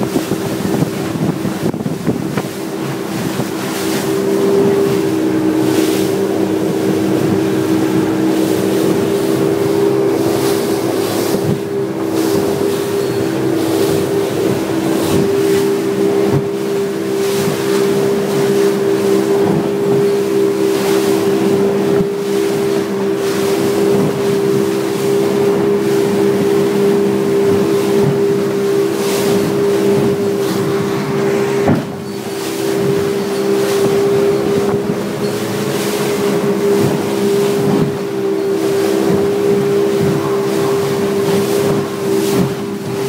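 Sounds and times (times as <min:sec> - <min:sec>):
motorboat engine humming: 0:00.0 - 0:43.0
water splashing along hull: 0:00.0 - 0:43.0.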